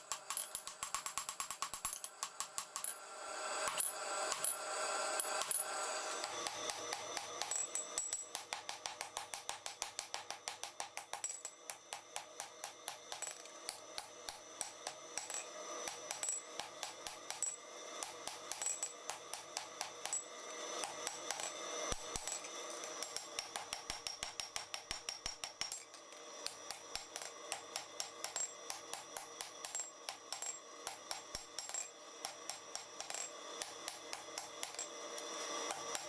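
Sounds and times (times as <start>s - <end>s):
hammer striking metal on anvil: 0.0s - 3.0s, 5.2s - 36.0s.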